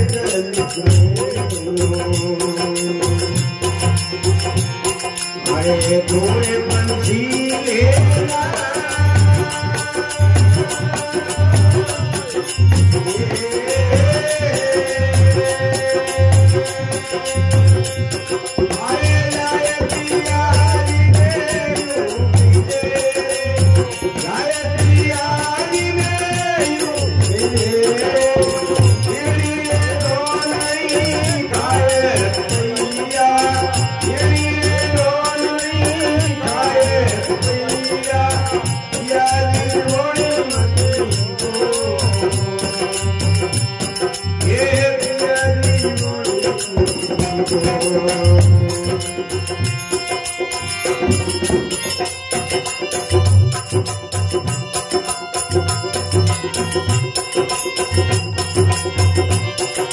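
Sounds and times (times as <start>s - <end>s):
instrumental accompaniment: 0.0s - 59.9s
man singing into microphone: 0.0s - 59.9s.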